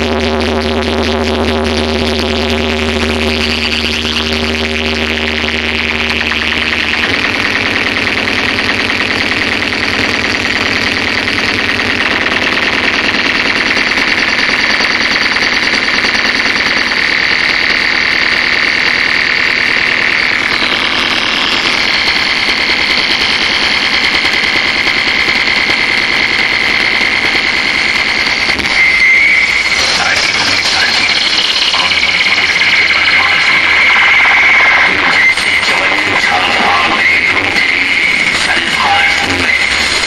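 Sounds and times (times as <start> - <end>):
harsh pulsing electronic buzz: 0.0 - 40.0.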